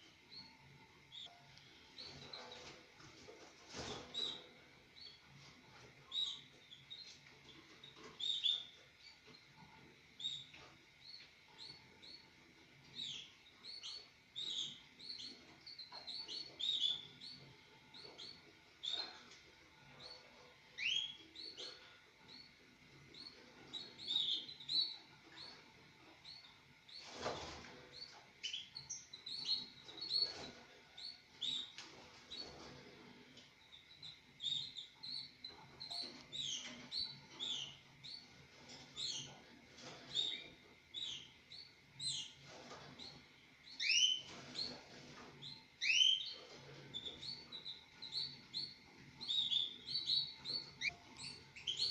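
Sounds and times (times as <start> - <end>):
canaries chirping: 0.0 - 51.9.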